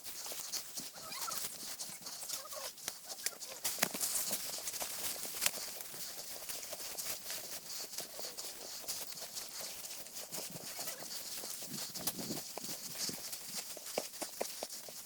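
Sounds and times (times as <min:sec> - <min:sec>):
crunching footsteps: 0:00.0 - 0:15.0
rustling through dry vegetation: 0:00.0 - 0:15.0.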